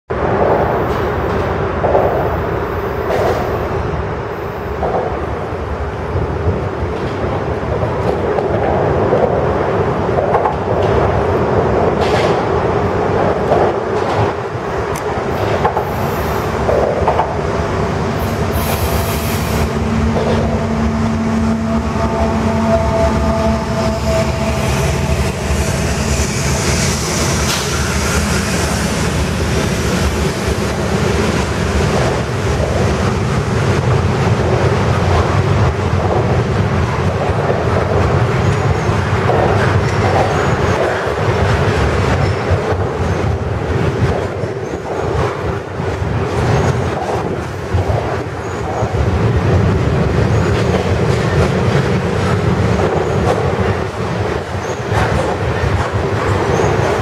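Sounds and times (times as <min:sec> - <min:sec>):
diesel locomotive engines: 0:00.1 - 0:57.0
freight cars rumbling on rails: 0:00.1 - 0:57.0.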